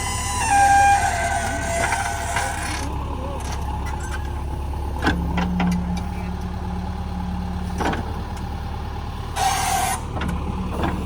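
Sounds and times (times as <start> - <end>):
backhoe diesel engine running: 0.0 - 11.0.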